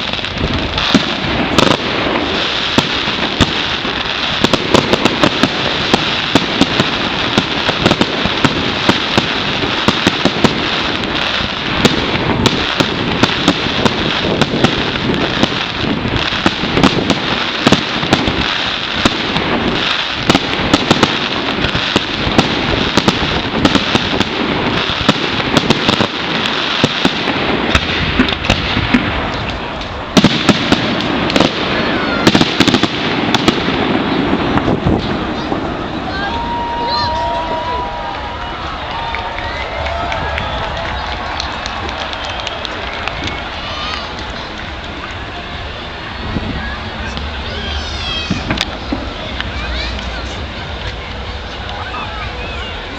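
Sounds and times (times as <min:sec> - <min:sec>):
fireworks bangs: 0:00.0 - 0:52.9
fireworks crackling: 0:00.0 - 0:52.9.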